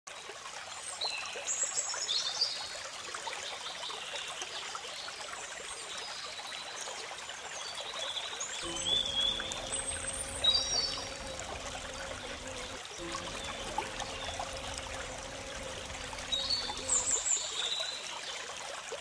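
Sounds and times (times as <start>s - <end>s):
stream water trickling over rocks: 0.1s - 19.0s.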